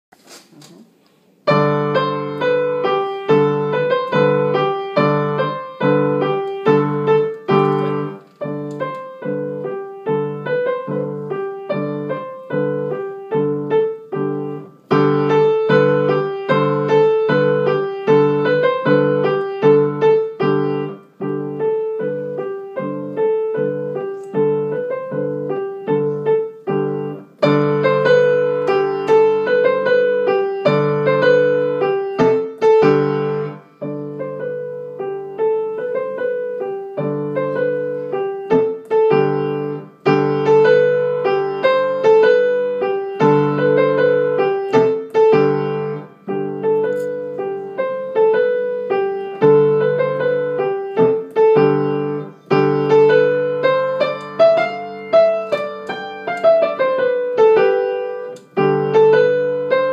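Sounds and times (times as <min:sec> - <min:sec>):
grand piano piece: 0:00.5 - 0:59.9.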